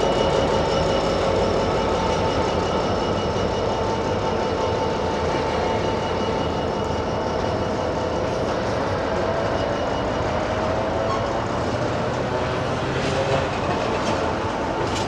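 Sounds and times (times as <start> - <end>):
diesel locomotive engine drone: 0.0 - 15.0
train wheels on rails: 0.0 - 15.0.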